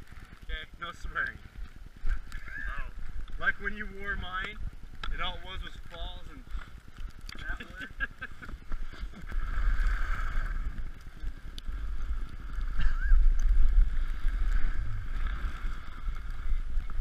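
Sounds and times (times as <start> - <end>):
sliding over snow hiss: 0.0 - 17.0
wind buffeting microphone: 0.0 - 17.0.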